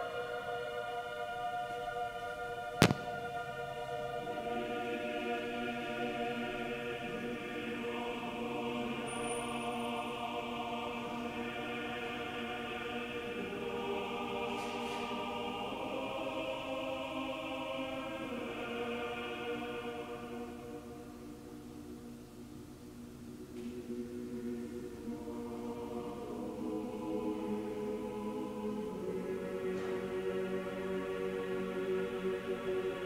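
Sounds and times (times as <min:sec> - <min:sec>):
church choir singing a cappella: 0:00.0 - 0:33.0.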